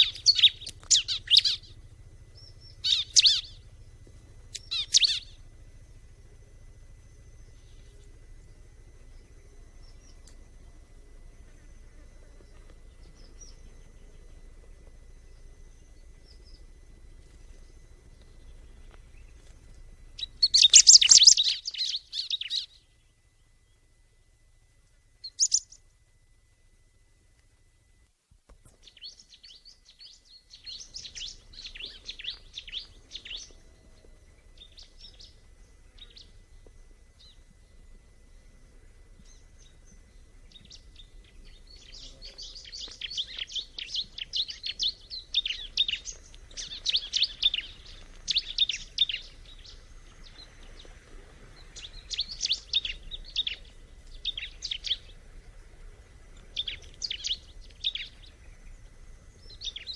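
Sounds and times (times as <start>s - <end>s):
small bird chattering song: 0.0s - 23.8s, 25.2s - 25.9s, 28.6s - 36.6s, 39.2s - 59.9s.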